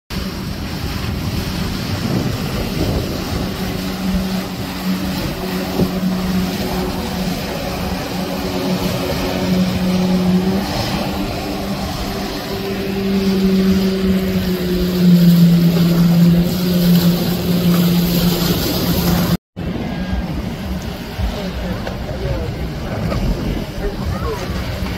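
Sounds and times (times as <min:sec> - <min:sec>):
speedboat engines droning: 0:00.1 - 0:24.9
water rushing: 0:00.1 - 0:24.9.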